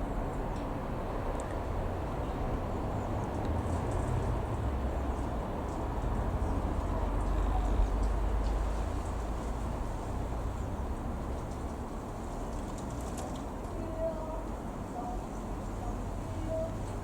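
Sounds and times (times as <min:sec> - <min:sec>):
turboprop engines rumbling: 0:00.0 - 0:17.0.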